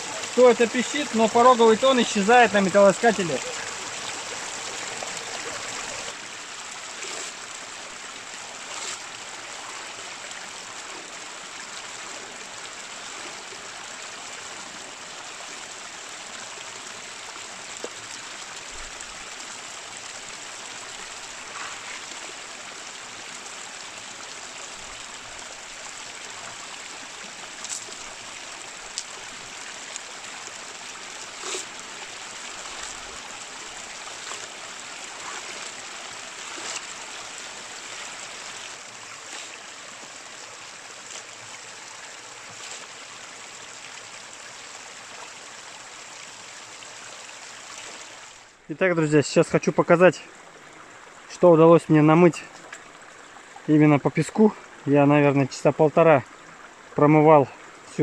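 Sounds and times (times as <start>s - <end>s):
creek running over stones: 0.0s - 58.0s.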